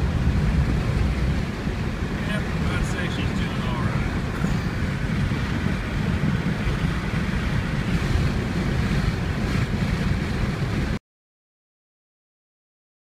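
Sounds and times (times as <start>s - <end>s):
road and wind rumble in car: 0.0s - 11.0s.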